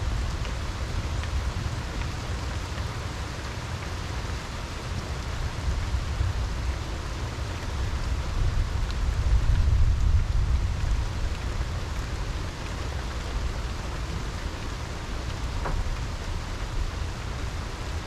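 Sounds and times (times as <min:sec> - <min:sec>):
steady rain hiss: 0:00.0 - 0:18.0
raindrop ticks: 0:00.1 - 0:06.8, 0:07.5 - 0:18.0.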